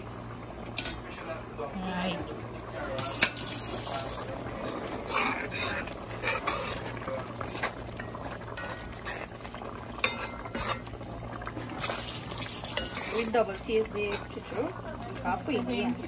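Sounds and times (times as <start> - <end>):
pot of food simmering and bubbling: 0.0 - 16.0.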